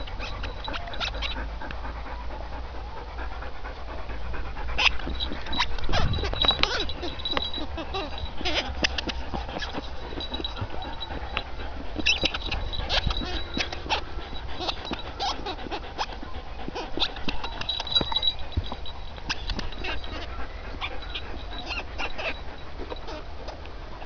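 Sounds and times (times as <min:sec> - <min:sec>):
rubber dog toys squeaking: 0:00.0 - 0:01.9, 0:04.7 - 0:24.0.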